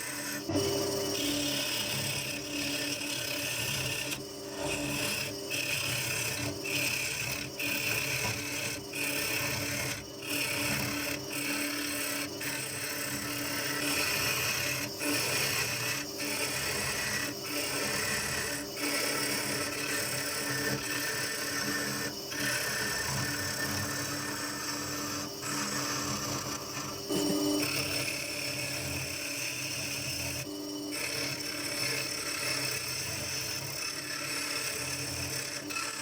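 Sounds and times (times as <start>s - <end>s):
tool cutting spinning wood: 0.0s - 36.0s
wood lathe running: 0.0s - 36.0s.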